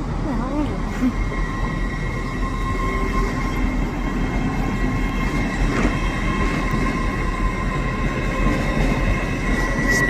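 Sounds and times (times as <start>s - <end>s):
train rumbling: 0.0s - 10.0s
high-pitched whine: 0.4s - 10.0s.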